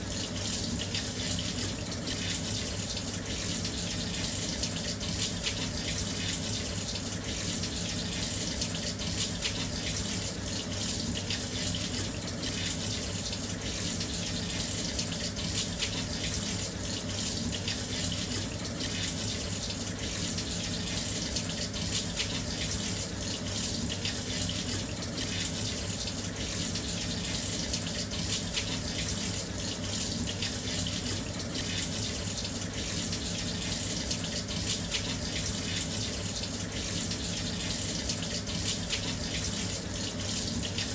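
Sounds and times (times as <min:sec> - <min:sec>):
water pouring into washing machine: 0:00.0 - 0:40.9.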